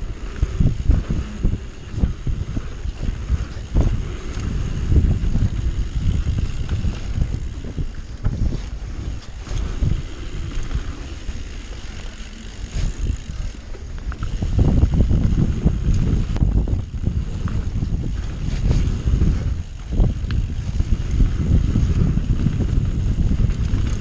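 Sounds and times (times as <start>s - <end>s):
bike knocks and rattles: 0.0s - 24.0s
bike low rumble: 0.0s - 24.0s
wind buffeting microphone: 0.0s - 24.0s.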